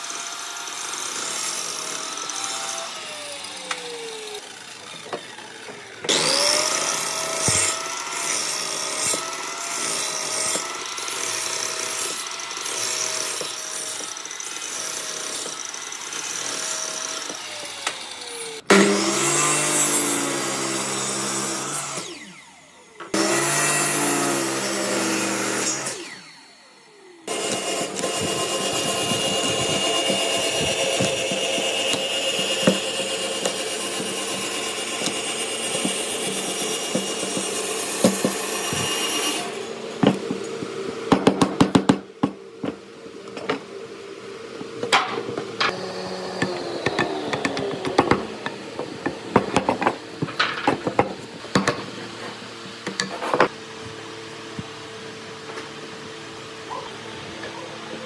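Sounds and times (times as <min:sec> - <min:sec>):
woodworking power tool whirring: 0:00.0 - 0:58.0.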